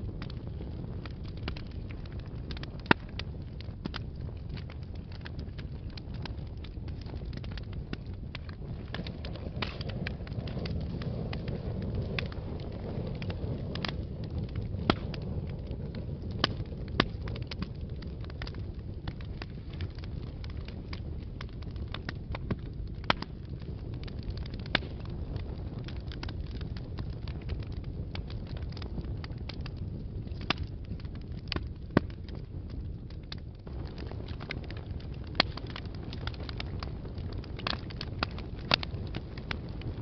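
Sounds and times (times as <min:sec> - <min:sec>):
fire crackling and popping: 0:00.0 - 0:40.0
fire flames rumbling: 0:00.0 - 0:40.0.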